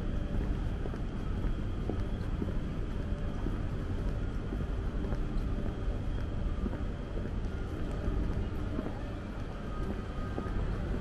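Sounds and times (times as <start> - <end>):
rumble of crowd moving about: 0.0 - 11.0
footsteps clicking: 0.2 - 11.0.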